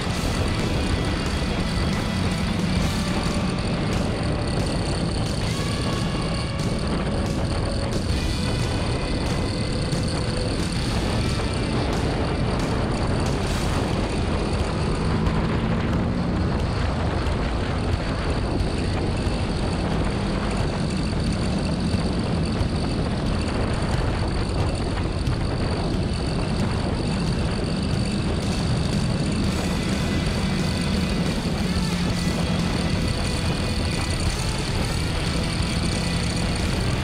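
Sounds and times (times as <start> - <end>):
motorcycle engine at speed: 0.0 - 37.0
wind rush on microphone: 0.0 - 37.0.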